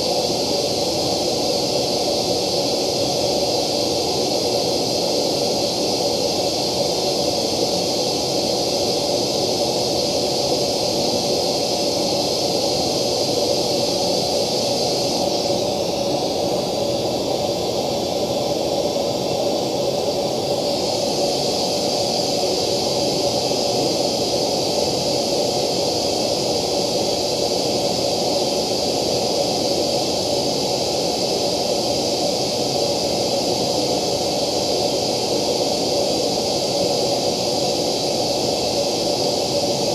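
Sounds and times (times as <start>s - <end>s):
steady test noise hiss: 0.0s - 39.9s.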